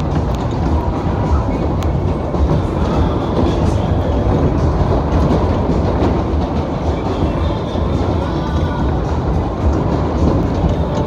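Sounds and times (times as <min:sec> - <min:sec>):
fairground ride rumbling and clattering: 0:00.0 - 0:11.0.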